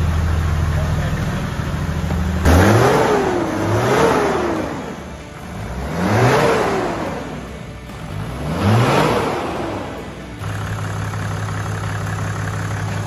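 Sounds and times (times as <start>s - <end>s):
diesel engine idling and revving: 0.0s - 13.0s.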